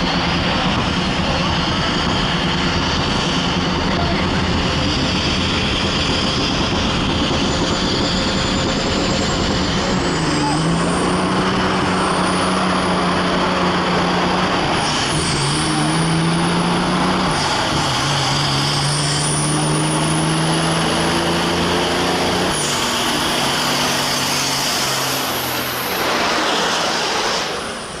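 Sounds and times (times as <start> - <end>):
large vehicle engine under load: 0.0 - 28.0.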